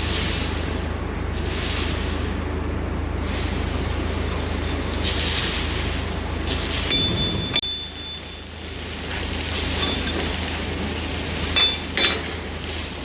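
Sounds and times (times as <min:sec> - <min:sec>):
machine drone and hiss: 0:00.0 - 0:13.0.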